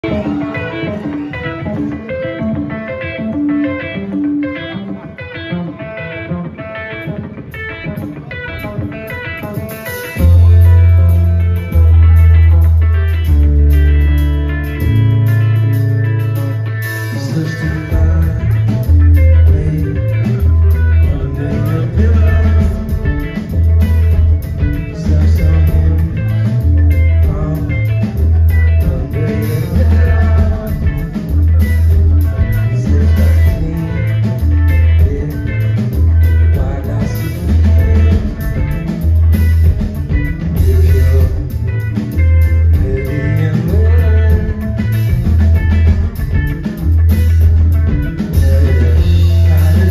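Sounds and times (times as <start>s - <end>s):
electric guitar riff: 0.0s - 49.9s
live rock band playing: 0.0s - 49.9s.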